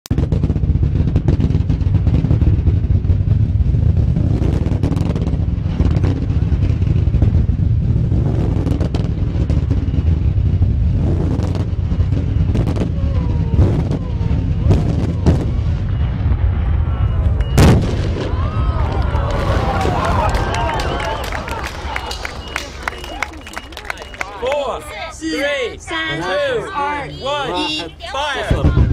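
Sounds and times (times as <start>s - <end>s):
fireworks barrage with sharp bangs: 0.1s - 24.2s, 28.4s - 28.9s.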